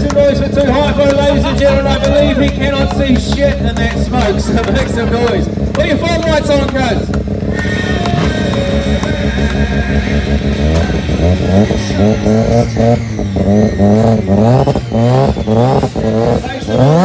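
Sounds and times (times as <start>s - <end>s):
rotary engine revving: 0.0s - 17.0s.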